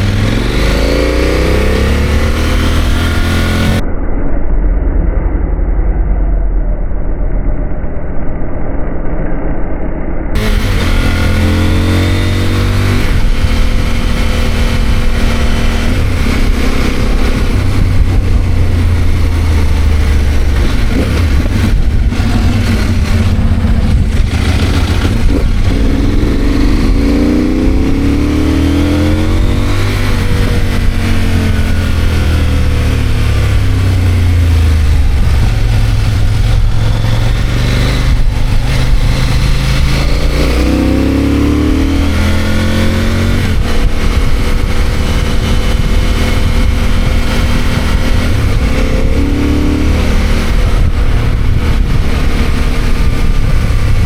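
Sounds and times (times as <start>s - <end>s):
motorcycle engine accelerating: 0.0s - 7.9s, 9.9s - 54.0s.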